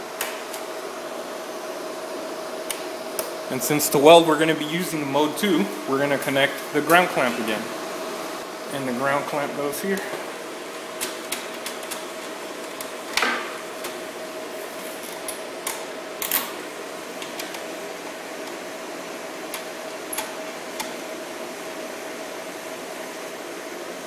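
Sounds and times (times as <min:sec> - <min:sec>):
cooling fans humming: 0:00.0 - 0:24.0.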